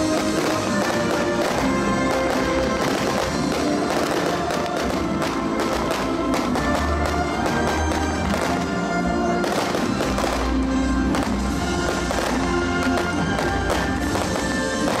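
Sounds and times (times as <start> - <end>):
fireworks banging and crackling: 0.0 - 15.0
music playing: 0.0 - 15.0.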